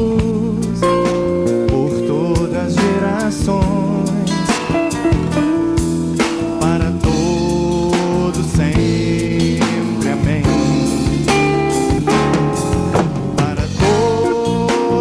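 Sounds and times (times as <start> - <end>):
drum kit beat: 0.0 - 15.0
guitars holding long notes: 0.0 - 15.0
worship band playing: 0.0 - 15.0.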